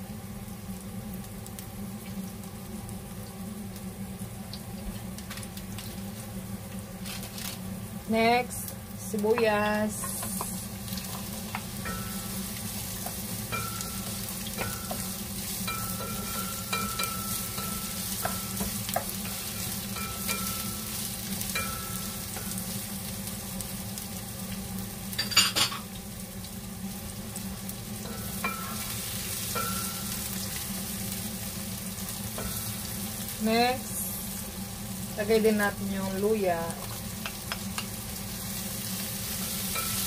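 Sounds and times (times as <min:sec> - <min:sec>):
onions sizzling in oil: 0:00.0 - 0:40.0.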